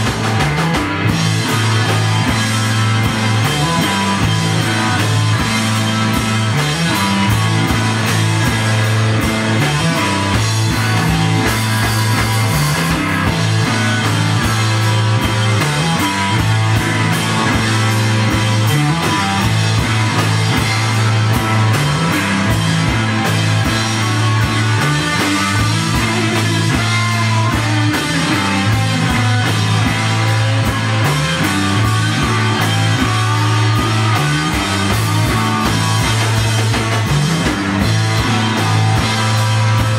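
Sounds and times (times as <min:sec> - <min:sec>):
bass line: 0:00.0 - 0:39.9
drum kit hits: 0:00.0 - 0:39.9
electric guitar: 0:00.0 - 0:39.9.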